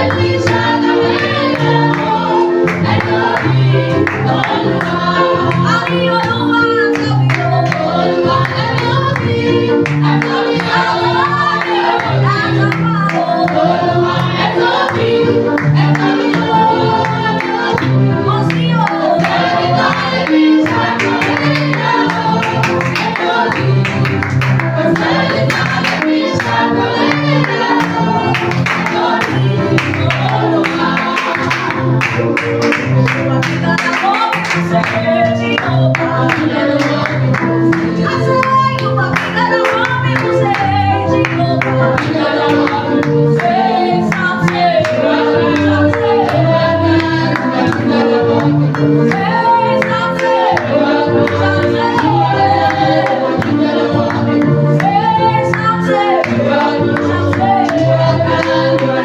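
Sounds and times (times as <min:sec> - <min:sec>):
worship team singing: 0:00.0 - 0:59.0.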